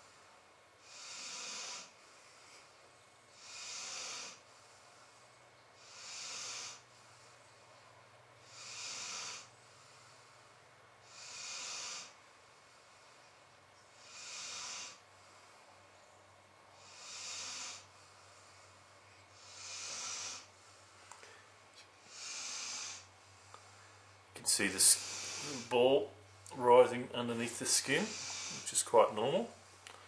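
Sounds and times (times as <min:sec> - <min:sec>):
slow breathing: 0:00.0 - 0:26.6, 0:27.6 - 0:28.9.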